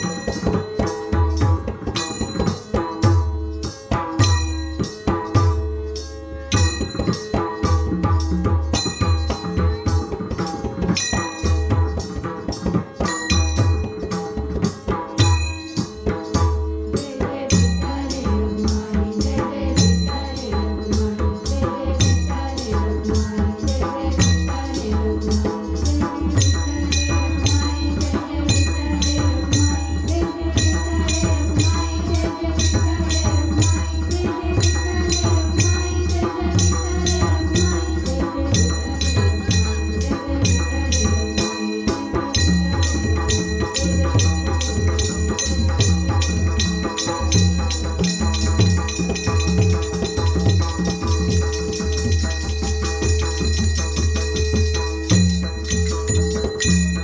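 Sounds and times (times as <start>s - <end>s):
jingling hand percussion: 0.0s - 57.0s.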